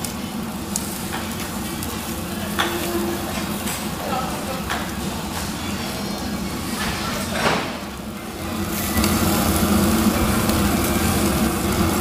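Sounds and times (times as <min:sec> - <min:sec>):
ribs sizzling on a grill: 0:00.0 - 0:12.0.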